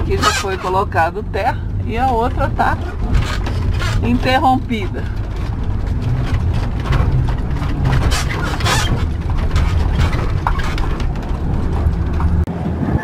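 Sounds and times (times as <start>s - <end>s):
rattles and knocks: 0.0s - 12.5s
engine and road rumble: 0.0s - 13.0s.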